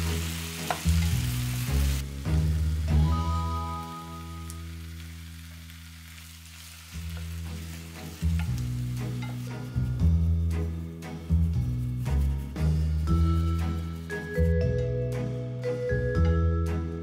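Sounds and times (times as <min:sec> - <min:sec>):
background music with low notes: 0:00.0 - 0:06.1, 0:06.8 - 0:17.0
sauce sizzling in a pan: 0:00.0 - 0:14.6.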